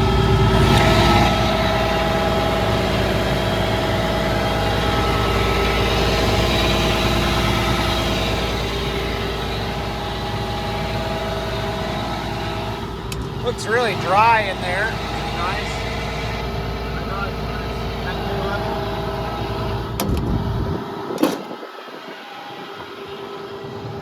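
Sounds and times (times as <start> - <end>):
excavator diesel engine idling: 0.0 - 24.0.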